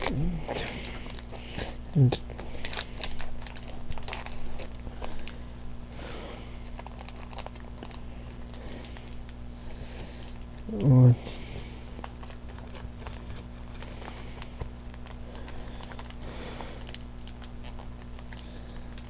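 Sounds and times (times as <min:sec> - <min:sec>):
foil wrapper crinkling: 0:00.0 - 0:19.0.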